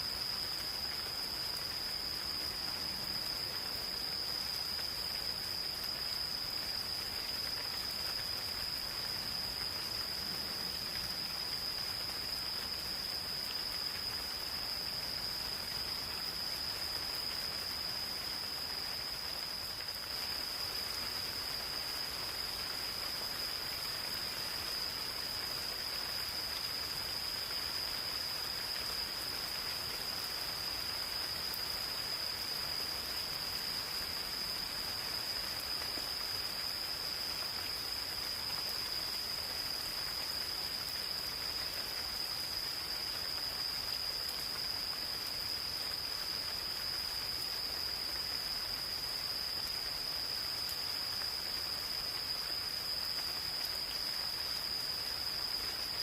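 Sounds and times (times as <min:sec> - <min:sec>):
gentle rain falling: 0:00.0 - 0:56.0
insects trilling: 0:00.0 - 0:56.0.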